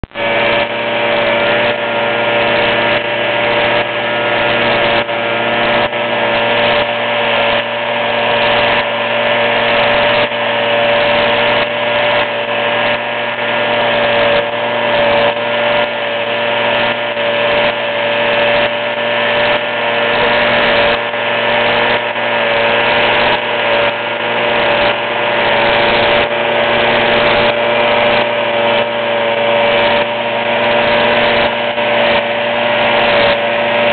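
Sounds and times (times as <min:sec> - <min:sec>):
cutter shearing bushes: 0:00.0 - 0:33.9
small engine running: 0:00.0 - 0:33.9.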